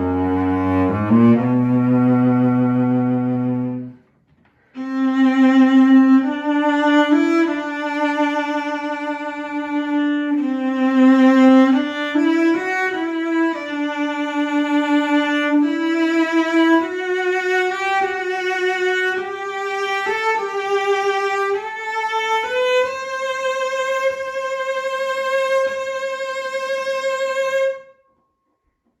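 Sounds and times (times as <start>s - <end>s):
bowed cello solo: 0.0s - 4.0s, 4.7s - 27.8s.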